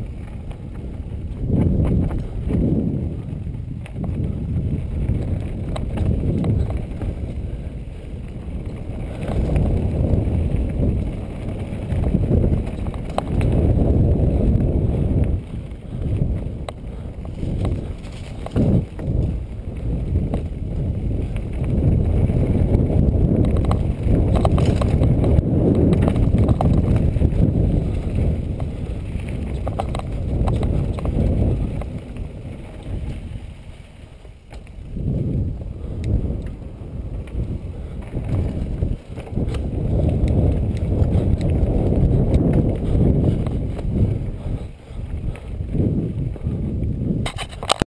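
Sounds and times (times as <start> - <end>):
bike rattling over rough trail: 0.0 - 47.8
bike tyres rolling on dirt: 0.0 - 47.8
wind rumble on microphone: 0.0 - 47.8.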